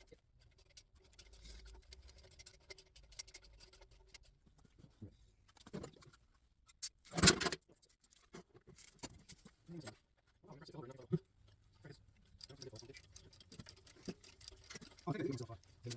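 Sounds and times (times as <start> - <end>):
metallic clicks and scraping: 0.0 - 15.9.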